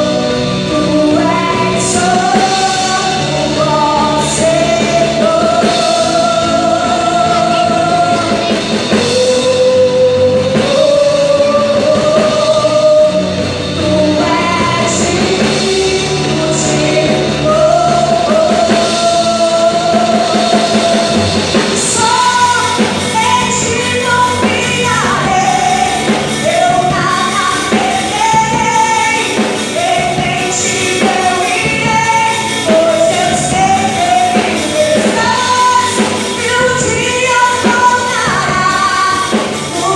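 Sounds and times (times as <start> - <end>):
band playing worship music: 0.0 - 39.9
woman singing: 0.0 - 39.9.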